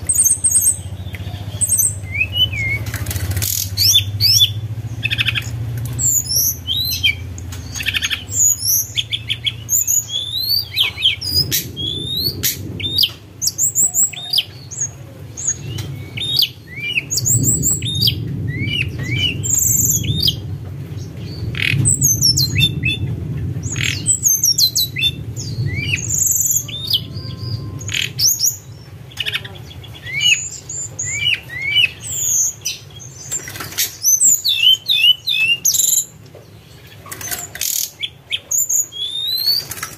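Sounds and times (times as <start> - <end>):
songbird whistling: 0.0 - 20.4, 23.6 - 28.8, 30.0 - 32.8, 33.9 - 36.1, 37.3 - 39.8
low rumble: 0.0 - 33.3.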